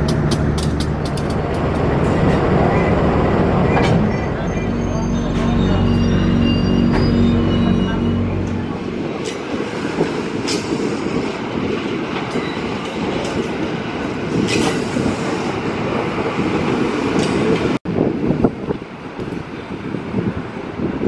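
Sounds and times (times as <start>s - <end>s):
wheels clanking on rails: 0.0s - 17.8s
train rumbling on tracks: 0.0s - 21.0s.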